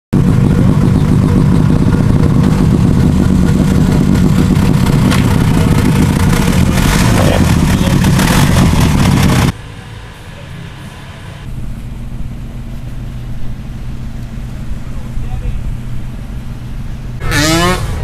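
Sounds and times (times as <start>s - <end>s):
engine idling and revving: 0.2s - 18.0s.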